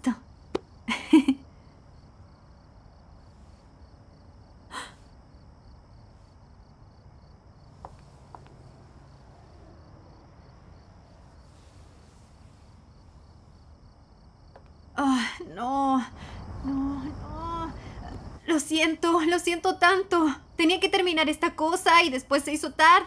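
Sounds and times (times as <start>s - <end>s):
crickets chirping: 0.0s - 23.0s
low room tone hum: 0.0s - 23.0s.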